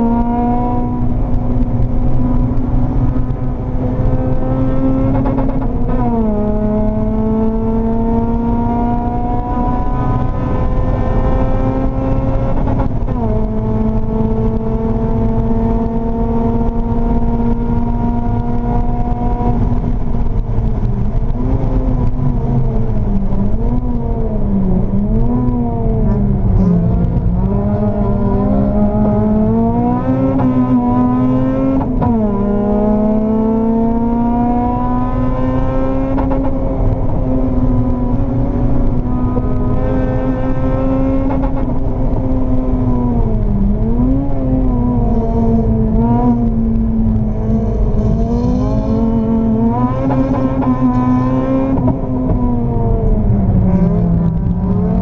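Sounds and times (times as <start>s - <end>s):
car engine revving at full throttle: 0.0s - 55.0s.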